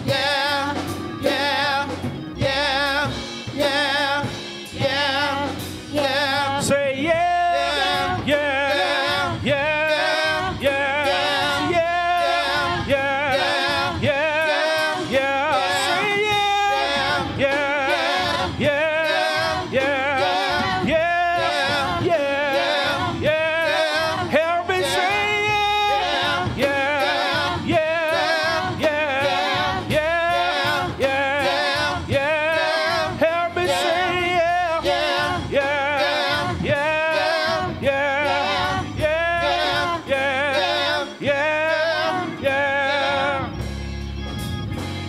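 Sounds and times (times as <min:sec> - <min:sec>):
vocal trio singing gospel: 0:00.0 - 0:43.8.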